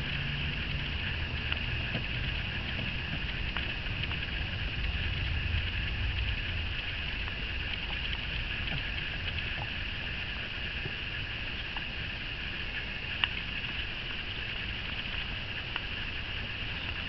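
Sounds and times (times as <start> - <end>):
faint ticks: 0.0 - 17.0
wind rumble on microphone: 0.0 - 17.0.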